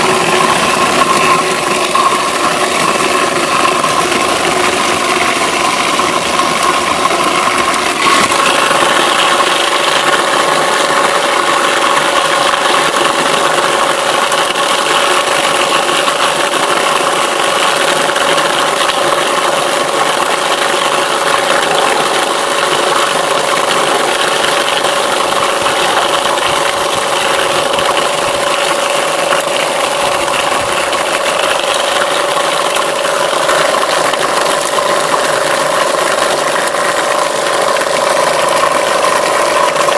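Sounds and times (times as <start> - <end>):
electric motor humming: 0.0 - 39.9.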